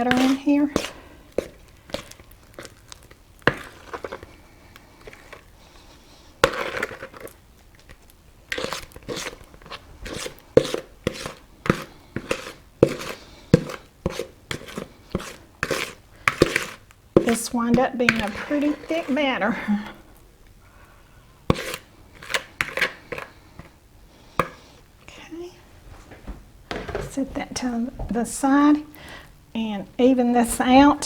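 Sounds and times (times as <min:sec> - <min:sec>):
spatula scraping mixing bowl: 0:00.0 - 0:20.0, 0:21.4 - 0:24.9, 0:26.7 - 0:31.0.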